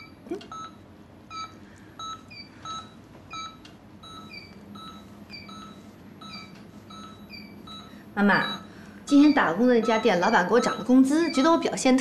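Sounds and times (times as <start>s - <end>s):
patient monitor beeping: 0.0s - 12.0s.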